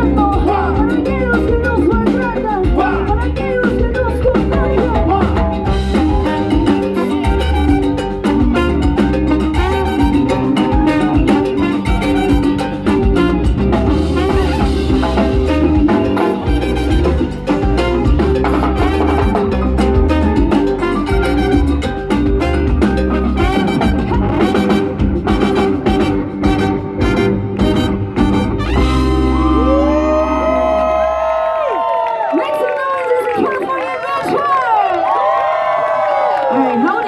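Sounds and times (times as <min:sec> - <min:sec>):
live salsa band playing: 0:00.0 - 0:37.0.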